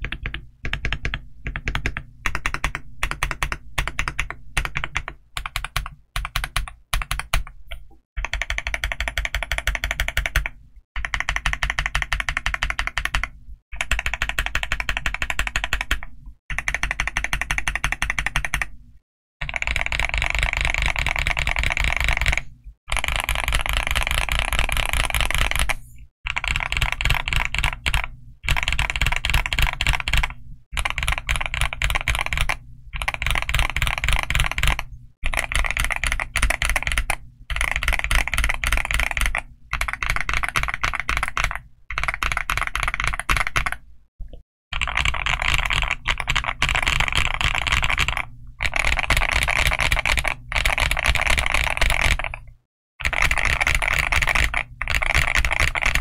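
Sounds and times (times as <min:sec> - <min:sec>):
mechanical keyboard typing: 0:00.0 - 0:18.8, 0:19.4 - 0:43.8, 0:44.8 - 0:56.0.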